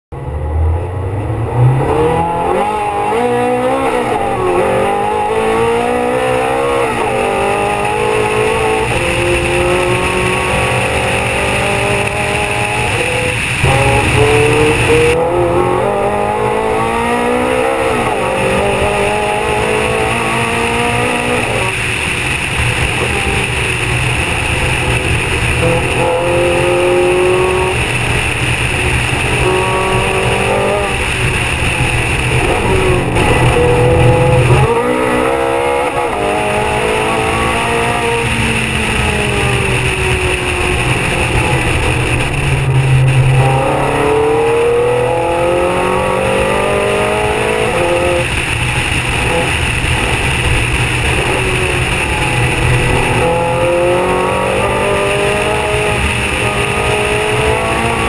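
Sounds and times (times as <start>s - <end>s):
car engine revving with gear changes: 0.1s - 58.0s
rushing wind: 0.2s - 58.0s.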